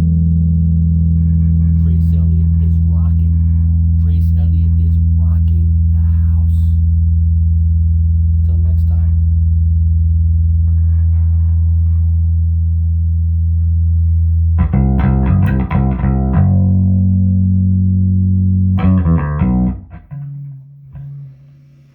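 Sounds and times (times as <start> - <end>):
electric bass guitar notes: 0.0 - 21.9.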